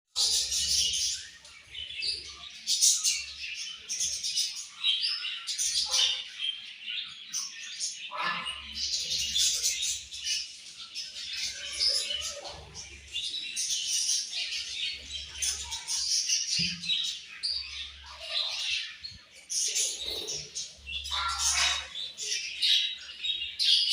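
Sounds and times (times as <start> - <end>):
budgerigars chirping: 0.2 - 23.9.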